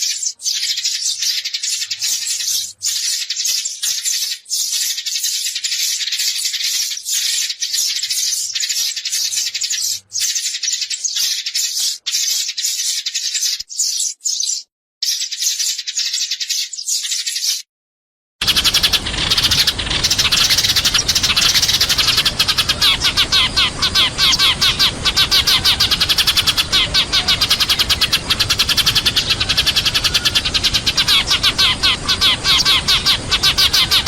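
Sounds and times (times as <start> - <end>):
sparrows chirping rapidly: 0.0 - 17.7, 18.4 - 34.0.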